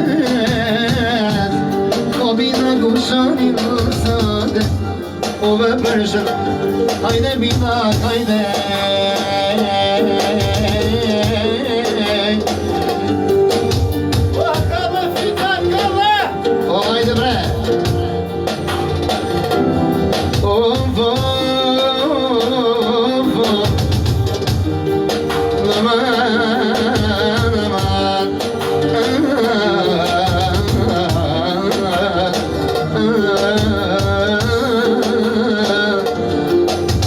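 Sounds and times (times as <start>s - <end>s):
chords: 0.0s - 37.0s
ornamented lead melody: 0.0s - 37.0s
steady drum beat: 0.0s - 37.0s.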